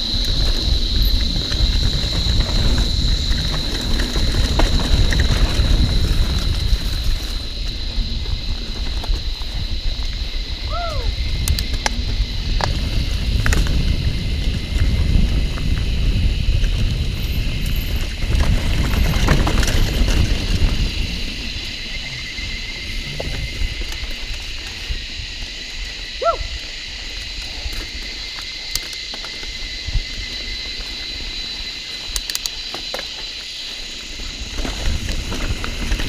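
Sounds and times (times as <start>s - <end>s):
bike clicks and rattles: 0.0s - 10.5s, 11.1s - 25.9s, 27.0s - 36.0s
wind on the microphone: 0.0s - 31.8s
bike tyre rumble on dirt: 0.0s - 36.0s.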